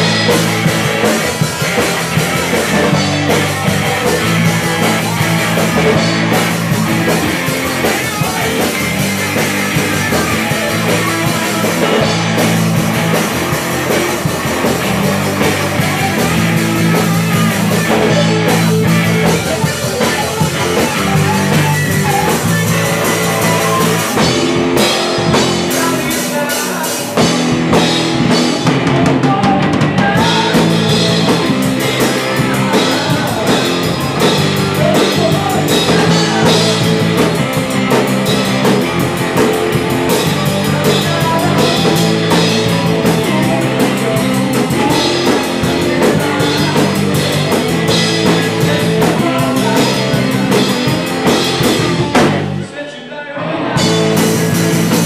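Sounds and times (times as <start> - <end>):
live rock band playing: 0.0 - 52.7, 53.4 - 55.0.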